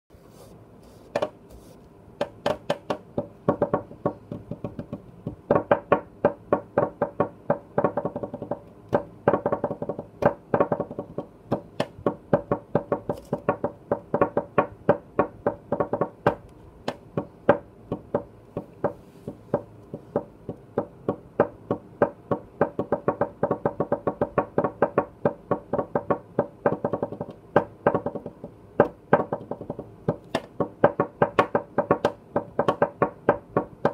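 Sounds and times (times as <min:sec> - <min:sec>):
fingers drumming on a tabletop: 0:01.1 - 0:01.4, 0:02.2 - 0:33.9.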